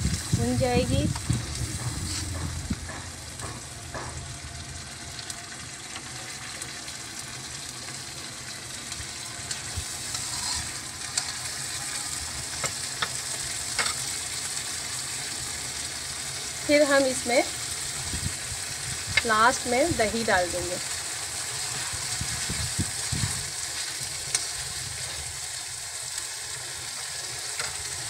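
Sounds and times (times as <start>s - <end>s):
gravy sizzling in a pan: 0.0s - 28.0s.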